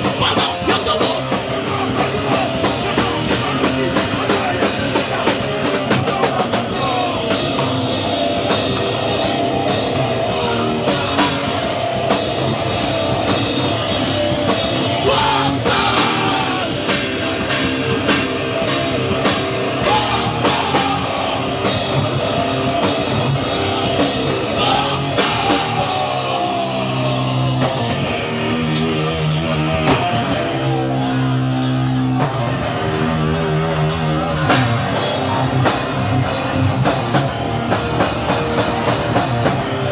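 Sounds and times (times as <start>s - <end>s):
shouted vocals: 0.0s - 8.5s, 9.9s - 12.4s, 13.2s - 36.8s
hardcore punk band playing live: 0.0s - 39.9s.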